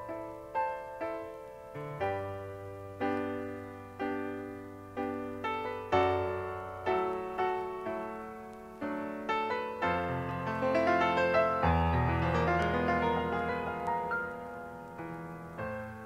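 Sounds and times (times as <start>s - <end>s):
piano notes and chords: 0.0s - 16.0s.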